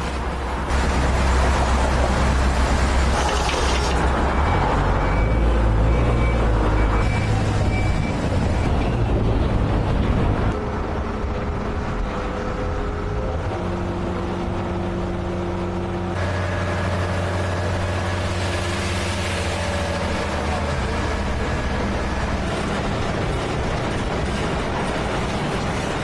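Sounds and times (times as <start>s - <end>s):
heavy machinery engines running: 0.0s - 26.0s.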